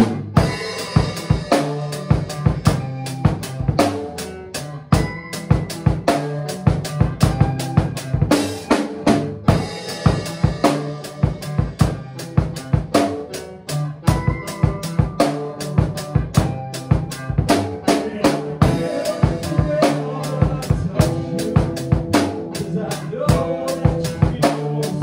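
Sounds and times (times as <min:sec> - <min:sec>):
drum kit playing: 0:00.0 - 0:25.0
electric guitar low notes: 0:00.0 - 0:25.0.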